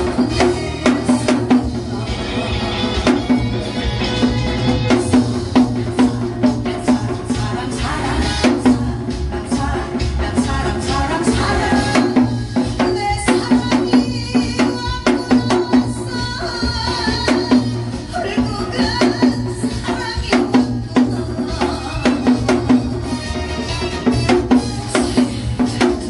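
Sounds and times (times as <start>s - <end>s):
recorded song with steady beat: 0.0s - 26.0s.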